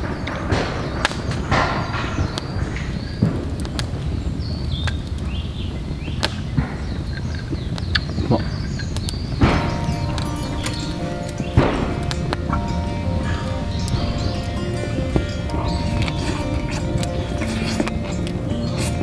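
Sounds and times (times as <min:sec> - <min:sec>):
birds chirping: 0:00.0 - 0:19.0
fire crackling and popping: 0:00.0 - 0:19.0.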